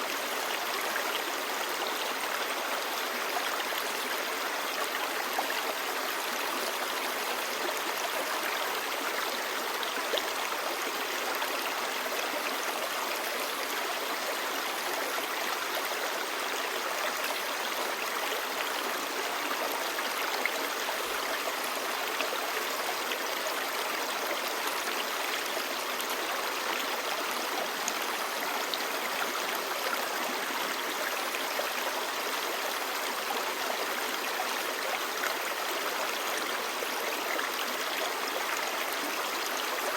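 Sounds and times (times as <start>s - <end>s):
stream babbling over stones: 0.1s - 39.9s.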